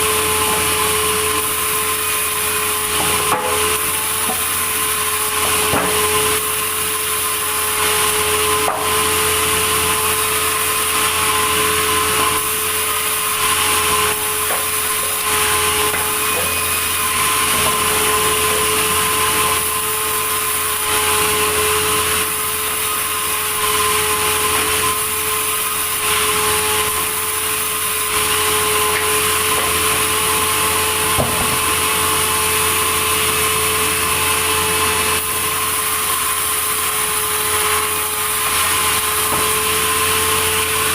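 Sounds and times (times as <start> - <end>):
sawmill saw whining: 0.0 - 40.9.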